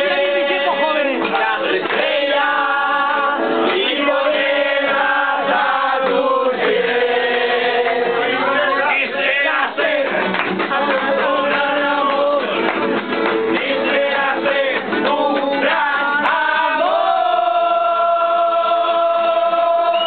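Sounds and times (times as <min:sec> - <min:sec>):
strummed guitar: 0:00.0 - 0:19.9
crowd singing in chorus: 0:00.0 - 0:20.0.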